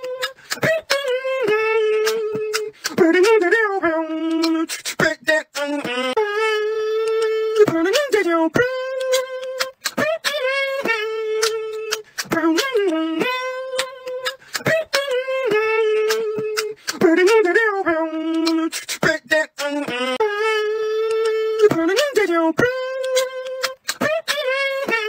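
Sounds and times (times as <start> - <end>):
beatbox mouth clicks and hits: 0.0 - 25.0
person humming melody: 0.0 - 25.0.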